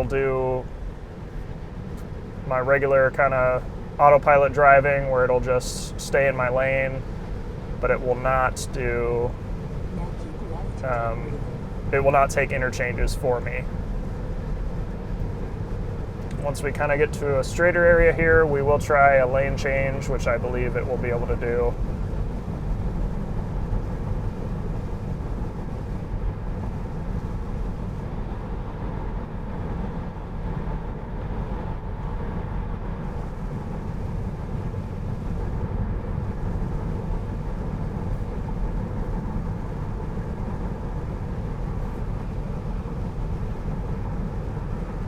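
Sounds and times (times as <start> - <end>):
road and tyre noise in car: 0.0 - 45.0.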